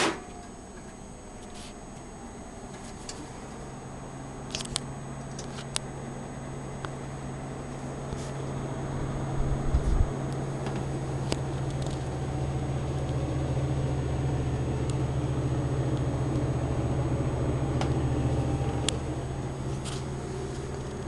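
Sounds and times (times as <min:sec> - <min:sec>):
computer cooling fans humming: 0:00.0 - 0:21.0.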